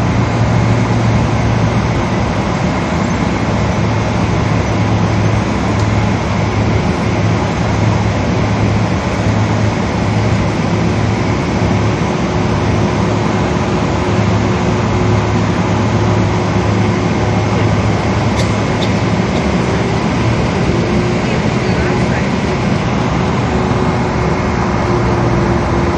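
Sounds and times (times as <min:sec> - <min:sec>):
airliner cabin engine drone: 0:00.0 - 0:25.9
low hum: 0:00.0 - 0:25.9.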